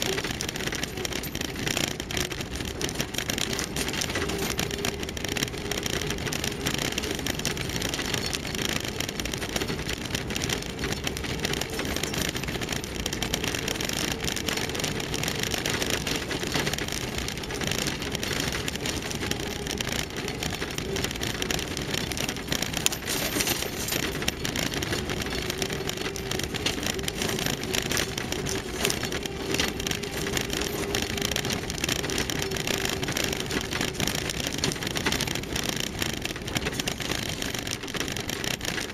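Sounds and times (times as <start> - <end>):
tyres crackling on gravel: 0.0 - 38.9
vehicle engine: 0.0 - 38.9.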